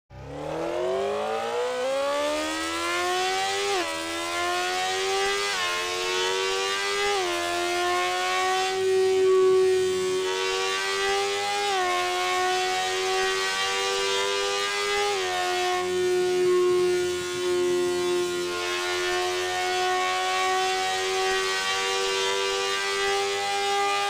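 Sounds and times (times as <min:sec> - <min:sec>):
motorcycle engine at high revs: 0:00.1 - 0:24.0.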